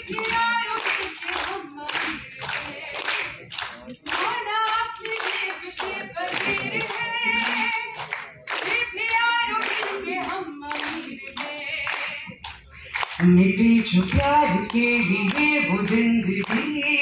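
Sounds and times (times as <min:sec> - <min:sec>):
audience clapping along: 0:00.0 - 0:17.0
person singing through speakers: 0:00.0 - 0:17.0.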